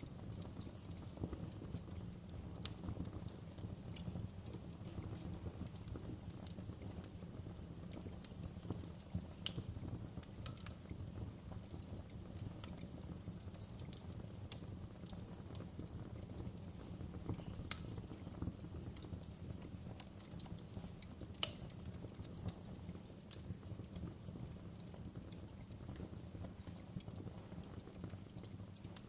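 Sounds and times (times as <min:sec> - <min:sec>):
fire pops and snaps: 0:00.0 - 0:29.0
wood fire crackling: 0:00.0 - 0:29.0.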